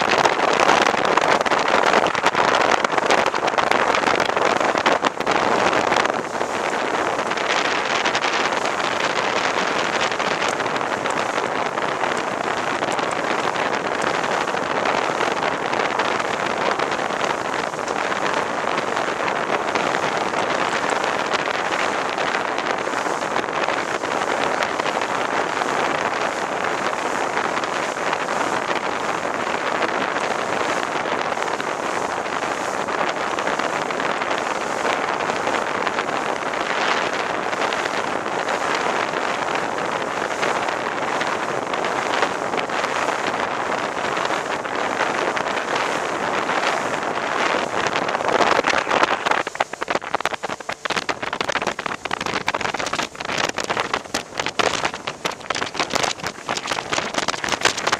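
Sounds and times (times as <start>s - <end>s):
outboard motor running: 0.0s - 57.9s
water rushing past boat hull: 0.0s - 57.9s
wind buffeting microphone: 0.0s - 57.9s.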